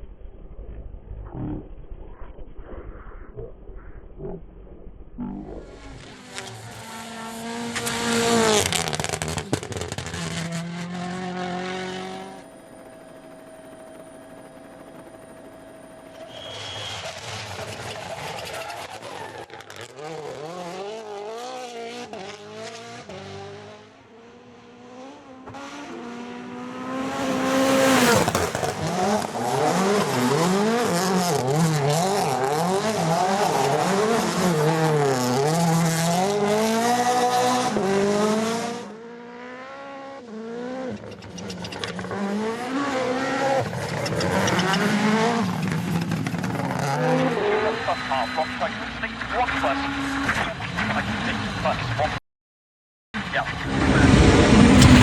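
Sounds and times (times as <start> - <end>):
rally car engine revving: 5.2 - 13.9, 16.1 - 52.2, 53.2 - 55.0.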